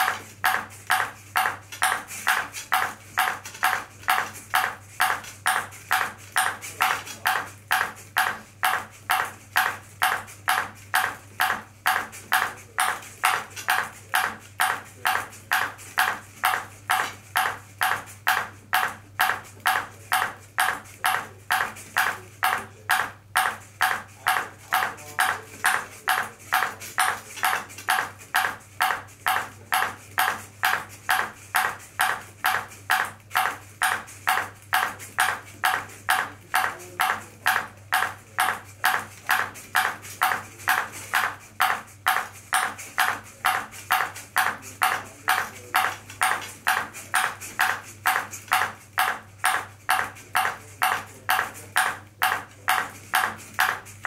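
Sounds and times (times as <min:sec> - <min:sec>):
ping pong ball bouncing: 0:00.0 - 0:53.9.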